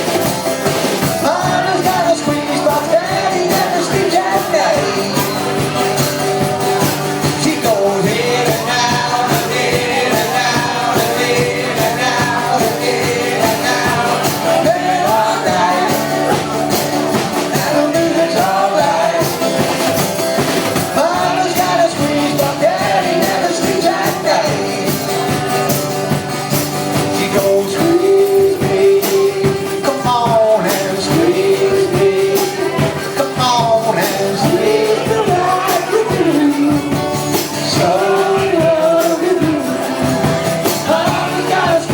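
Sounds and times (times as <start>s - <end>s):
percussion beat: 0.0s - 41.9s
person singing: 0.0s - 41.9s.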